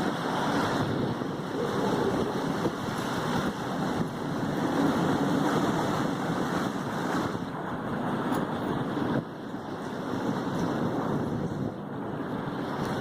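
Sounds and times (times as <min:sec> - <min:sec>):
surf washing up beach: 0:00.0 - 0:13.0
wind on microphone: 0:00.0 - 0:13.0.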